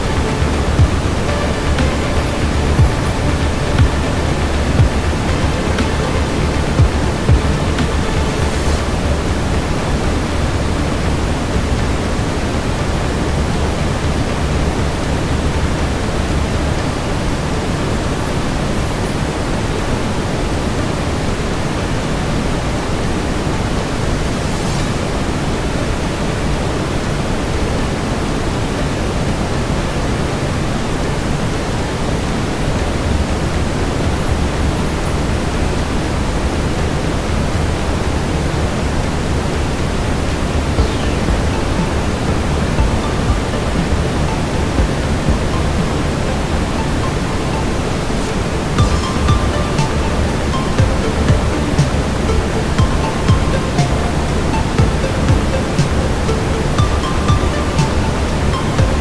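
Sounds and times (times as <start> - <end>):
brown noise: 0.0 - 59.0.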